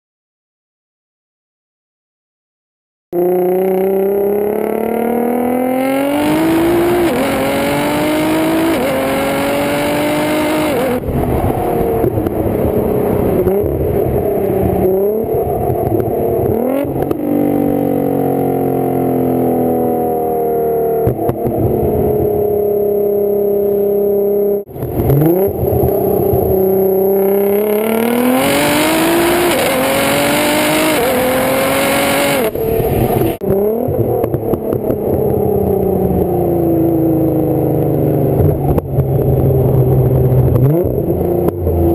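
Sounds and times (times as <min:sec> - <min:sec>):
car exhaust accelerating hard: 0:03.2 - 0:41.9.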